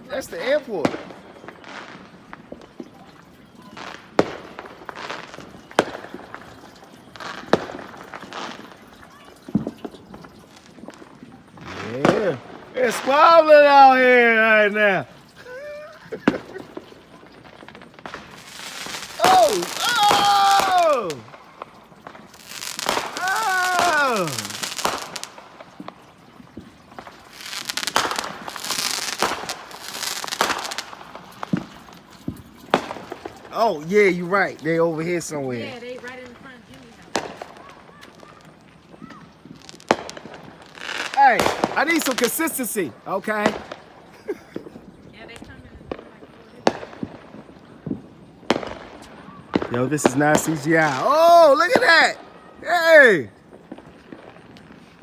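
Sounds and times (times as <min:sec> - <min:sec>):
fireworks banging: 0:00.0 - 0:55.0
fireworks crackling hiss: 0:00.0 - 0:55.0.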